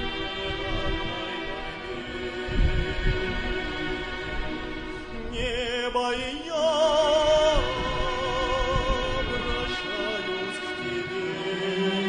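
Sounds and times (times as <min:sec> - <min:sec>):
orchestral accompaniment: 0:00.0 - 0:12.0
slow sung hymn: 0:00.0 - 0:12.0.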